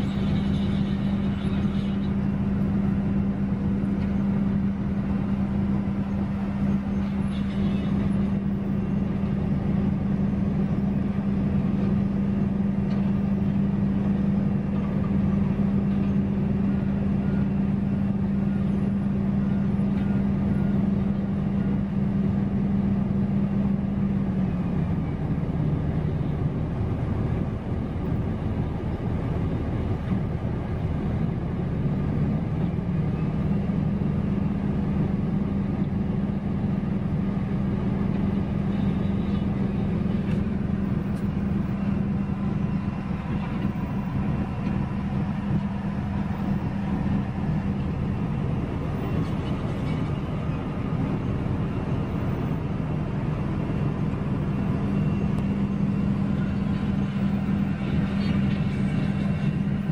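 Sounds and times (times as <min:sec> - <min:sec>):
milling machine diesel engine drone: 0:00.0 - 0:59.9.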